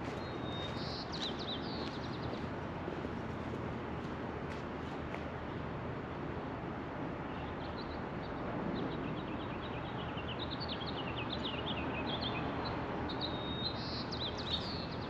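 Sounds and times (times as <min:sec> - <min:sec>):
songbirds chirping: 0:00.0 - 0:05.7, 0:07.3 - 0:15.0
steady background noise: 0:00.0 - 0:15.0.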